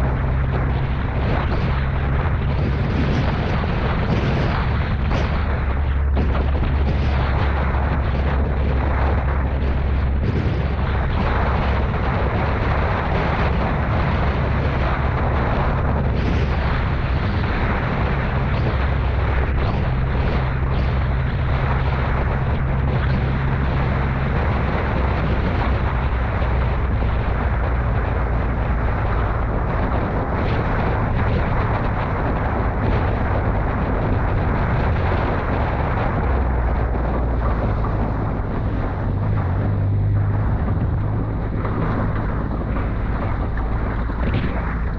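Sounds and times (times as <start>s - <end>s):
vehicle engine running under load: 0.0s - 44.9s.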